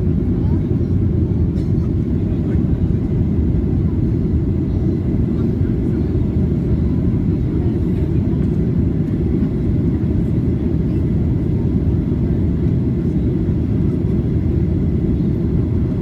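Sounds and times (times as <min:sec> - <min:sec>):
airplane engines rumbling in cabin: 0:00.0 - 0:16.0.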